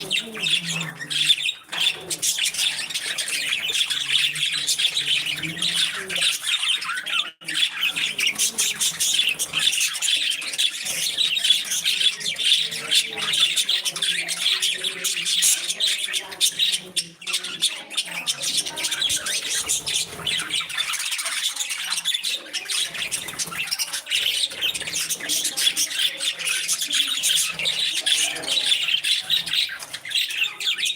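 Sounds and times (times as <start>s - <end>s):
budgerigars chattering and chirping: 0.0s - 30.9s.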